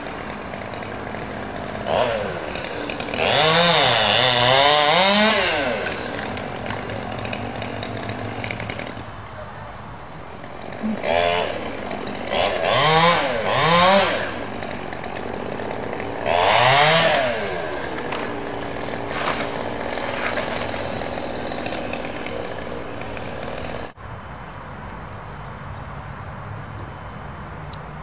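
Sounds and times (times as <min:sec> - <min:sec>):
chainsaw revving: 0:00.0 - 0:09.1, 0:10.3 - 0:24.0.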